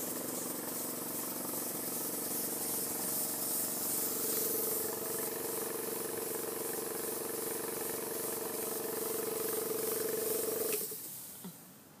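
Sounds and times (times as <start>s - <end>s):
small air engine whirring: 0.0s - 11.2s
air exhaust hissing: 0.0s - 11.8s.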